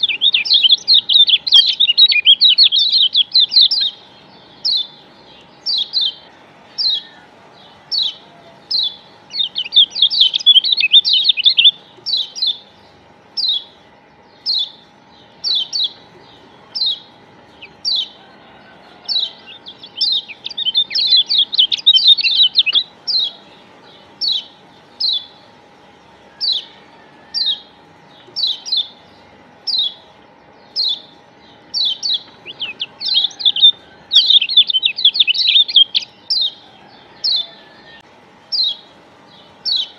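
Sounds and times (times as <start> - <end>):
bird chips and chattering trill: 0.0 - 18.3, 19.0 - 36.6, 38.5 - 39.9.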